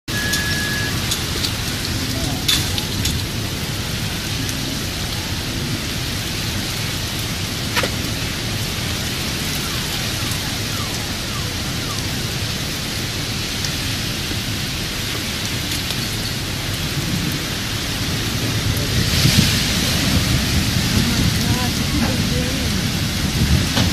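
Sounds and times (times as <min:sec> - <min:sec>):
heavy rain on pavement: 0:00.1 - 0:23.9.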